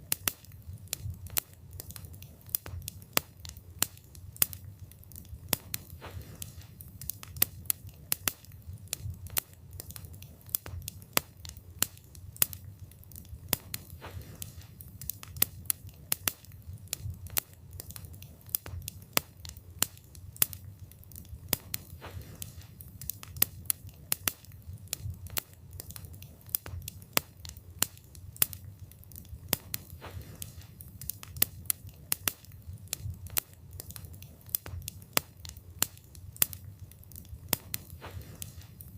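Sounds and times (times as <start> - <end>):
burning wood popping and crackling: 0.0 - 38.9
steady rush of flame: 0.0 - 38.9.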